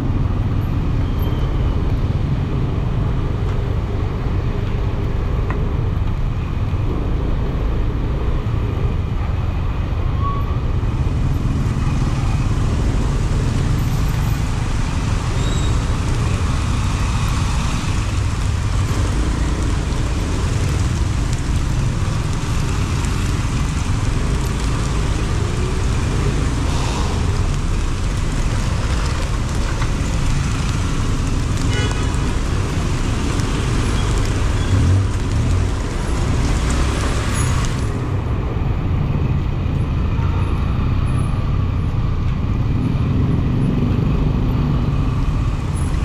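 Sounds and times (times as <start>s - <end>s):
city traffic rumble: 0.0s - 46.0s.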